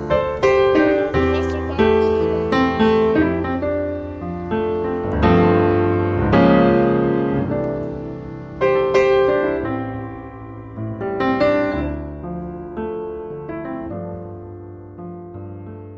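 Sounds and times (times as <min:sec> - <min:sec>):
piano chords: 0:00.0 - 0:15.9.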